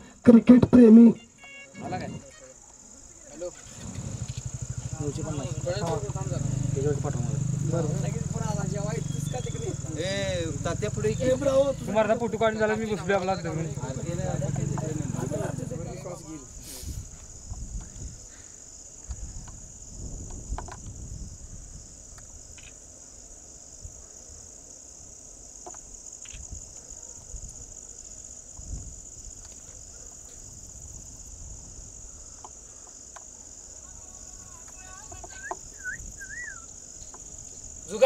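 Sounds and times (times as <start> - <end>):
crickets trilling: 0.0 - 38.0.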